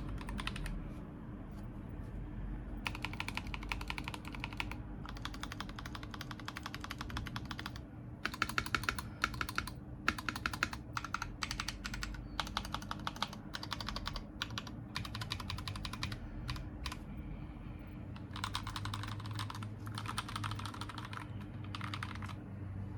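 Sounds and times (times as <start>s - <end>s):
mechanical keyboard typing: 0.0s - 0.8s, 2.8s - 17.0s, 18.2s - 22.4s.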